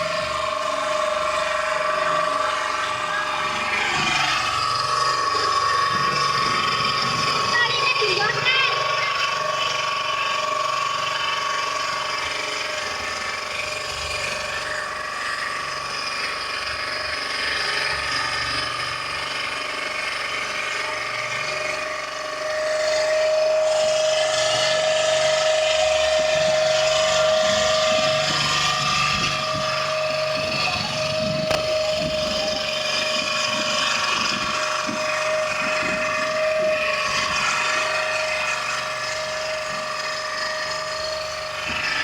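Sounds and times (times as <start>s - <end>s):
small engine whining: 0.0s - 42.0s.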